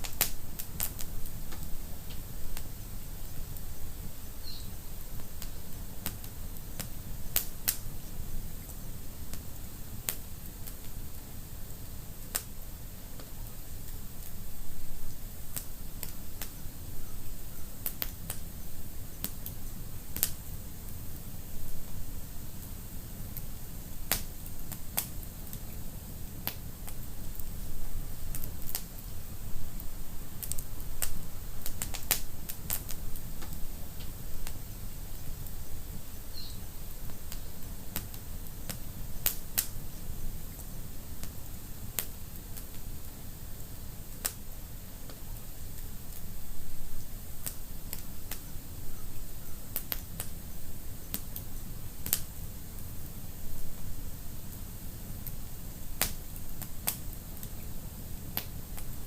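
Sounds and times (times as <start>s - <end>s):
low rumble of burning: 0.0s - 59.0s
wood fire crackling: 0.0s - 59.0s.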